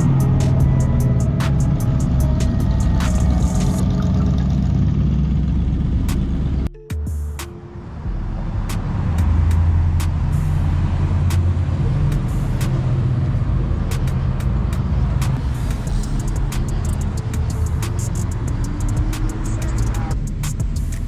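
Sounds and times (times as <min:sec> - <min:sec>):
pickup truck engine rumbling past: 0:00.0 - 0:06.7, 0:08.0 - 0:21.0.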